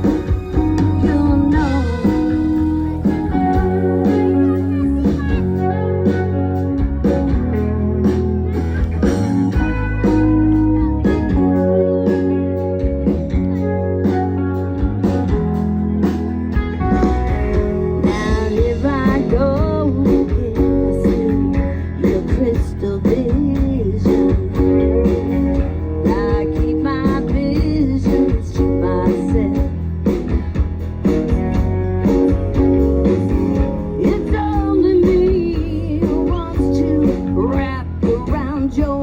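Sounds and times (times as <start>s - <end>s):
blues guitar music: 0.0s - 39.0s.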